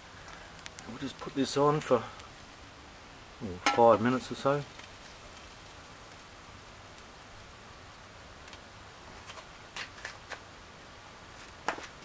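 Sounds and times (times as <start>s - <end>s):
charcoal hissing and crackling: 0.0s - 12.0s.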